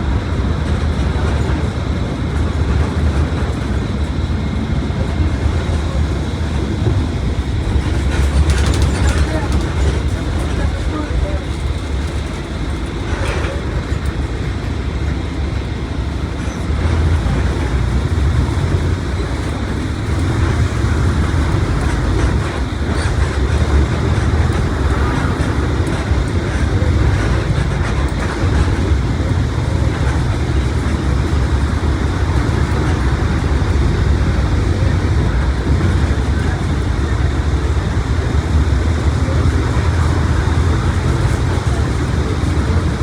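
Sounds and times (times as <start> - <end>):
bus diesel engine rumble: 0.0 - 43.0
road and drivetrain noise: 0.0 - 43.0.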